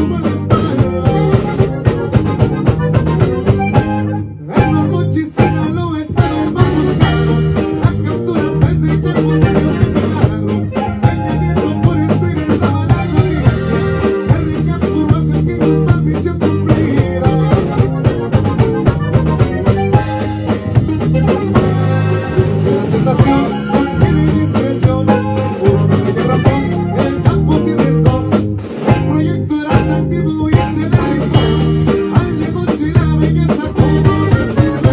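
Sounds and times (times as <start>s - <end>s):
accordion: 0.0s - 34.9s
drum kit: 0.0s - 34.9s
electric bass: 0.0s - 34.9s
guitar: 0.0s - 34.9s.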